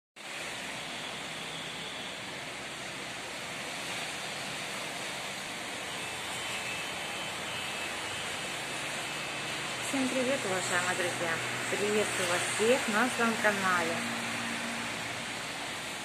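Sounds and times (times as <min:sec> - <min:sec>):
heavy rain hissing: 0:00.2 - 0:16.0.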